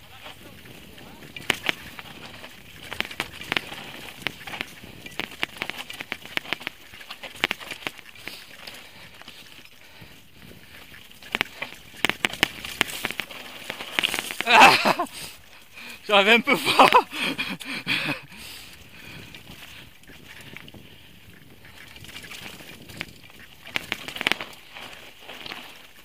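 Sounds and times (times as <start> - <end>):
bike rattling over rocks: 0.0 - 17.0, 18.6 - 26.0.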